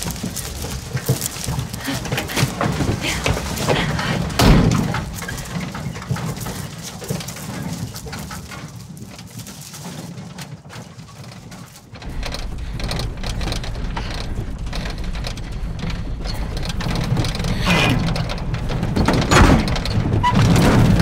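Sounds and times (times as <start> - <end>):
truck engine rumbling: 0.0 - 8.2, 11.9 - 21.0
rattling: 0.0 - 21.0.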